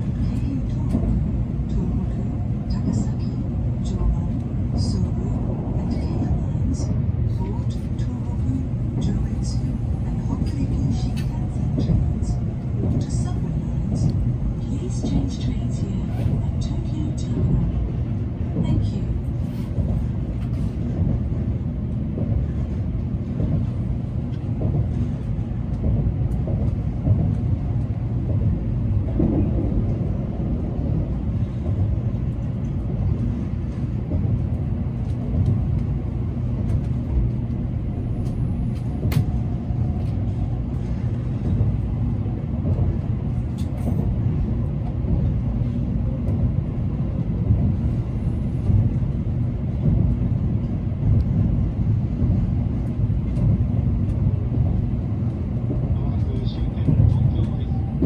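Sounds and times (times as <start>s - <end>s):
train low rumble inside carriage: 0.0s - 58.0s.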